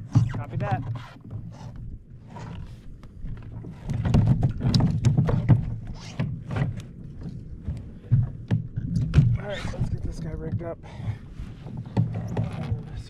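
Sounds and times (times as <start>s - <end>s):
knocks and clatter of gear: 0.0s - 13.0s.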